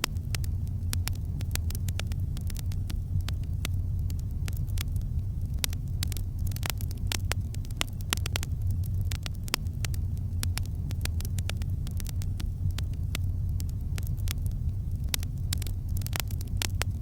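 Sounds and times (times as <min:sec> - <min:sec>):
campfire crackling: 0:00.0 - 0:17.0
low rumble: 0:00.0 - 0:17.0.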